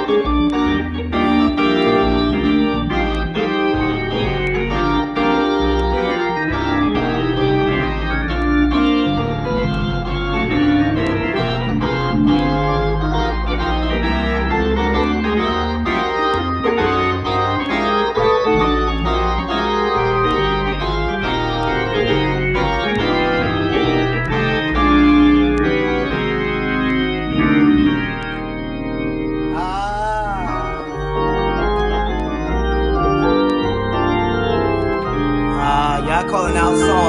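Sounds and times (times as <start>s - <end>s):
organ playing chords: 0.0s - 37.0s.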